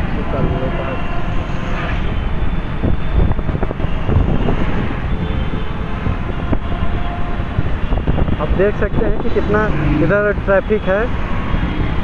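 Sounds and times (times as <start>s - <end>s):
motorcycle engines: 0.0s - 12.0s
road noise: 0.0s - 12.0s
wind buffeting microphone: 0.0s - 12.0s.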